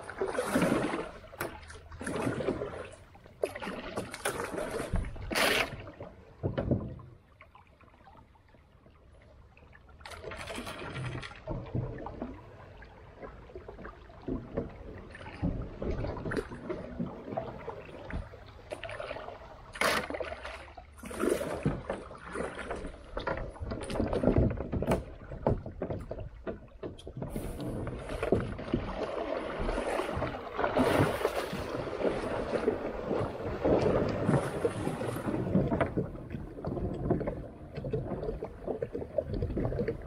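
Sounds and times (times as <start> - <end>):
water splashing and sloshing: 0.0 - 40.0.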